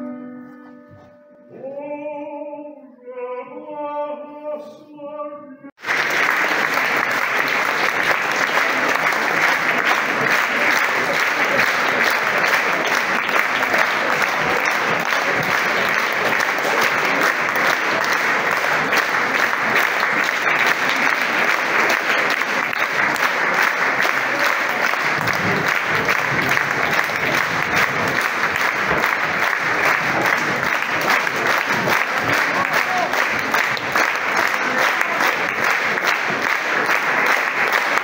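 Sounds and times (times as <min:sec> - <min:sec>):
audience applauding: 0:05.8 - 0:38.0.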